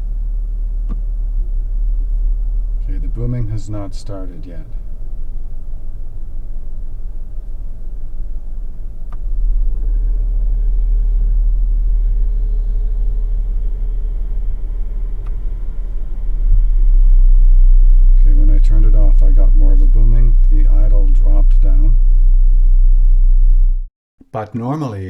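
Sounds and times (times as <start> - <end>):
deep engine rumble idling: 0.0 - 23.9.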